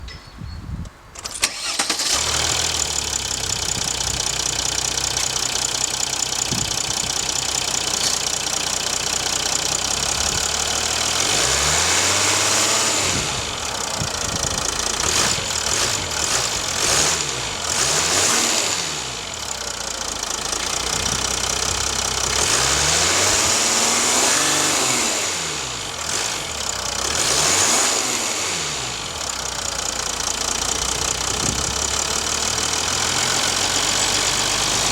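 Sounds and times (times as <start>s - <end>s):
car engine starting and idling: 1.2s - 34.9s
engine revving: 1.3s - 34.9s.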